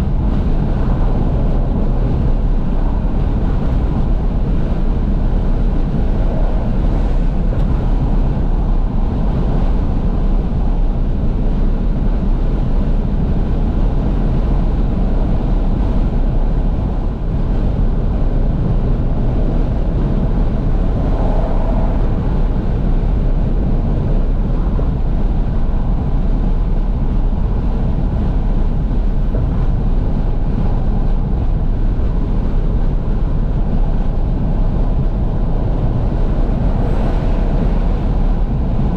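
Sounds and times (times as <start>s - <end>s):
engine and road noise: 0.0s - 38.9s
wind rushing through car windows: 0.0s - 38.9s.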